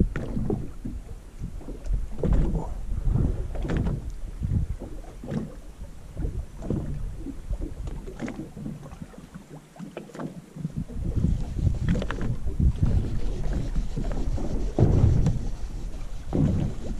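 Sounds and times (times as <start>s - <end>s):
wind buffeting microphone: 0.0s - 9.2s, 10.6s - 16.9s
water lapping against boat hull: 0.0s - 16.9s.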